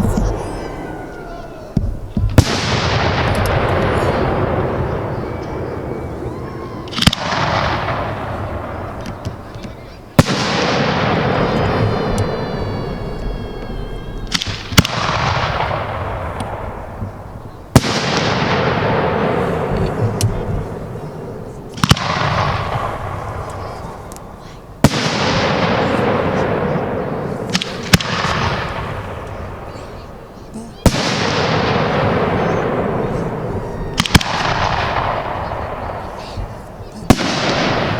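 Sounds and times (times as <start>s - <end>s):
fireworks bangs: 0.0s - 37.9s
hissing crackling fireworks tail: 0.0s - 37.9s.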